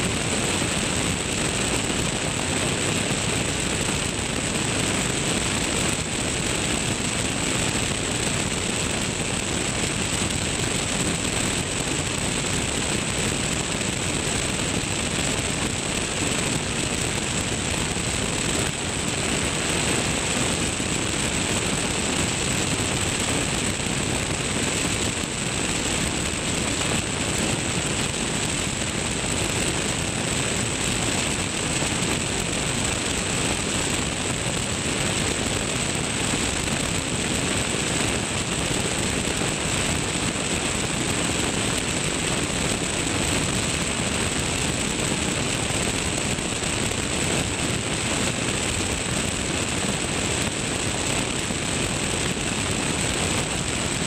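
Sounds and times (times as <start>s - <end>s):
aircraft engine and propeller: 0.0s - 54.0s
wind rushing over camera: 0.0s - 54.0s.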